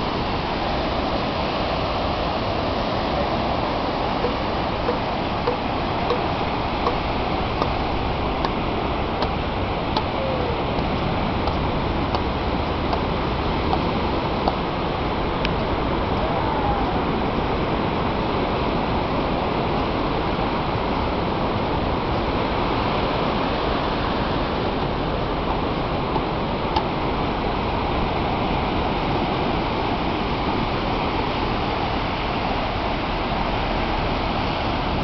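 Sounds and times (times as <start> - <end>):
steady rushing noise: 0.0 - 35.0.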